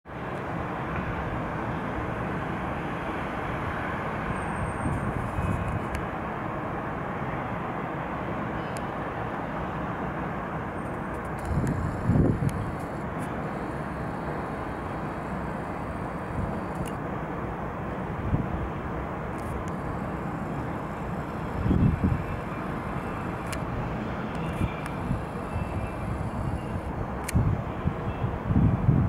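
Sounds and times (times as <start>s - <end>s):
city traffic hum: 0.1s - 29.0s
jet engines roaring: 0.4s - 27.9s.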